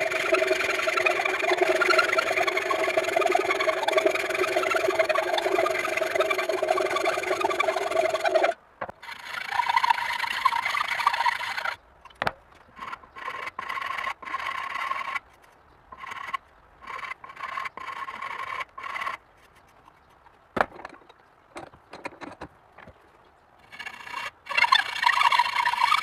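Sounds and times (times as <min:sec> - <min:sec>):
hand tool scraping workpiece: 0:00.0 - 0:08.5, 0:09.1 - 0:15.2, 0:16.0 - 0:20.0, 0:23.6 - 0:26.0.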